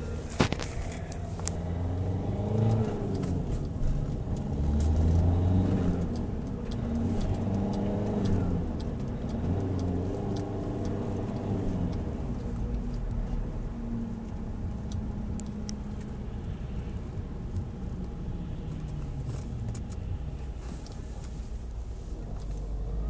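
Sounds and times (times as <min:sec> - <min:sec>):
diesel engine revving: 0:00.0 - 0:23.0.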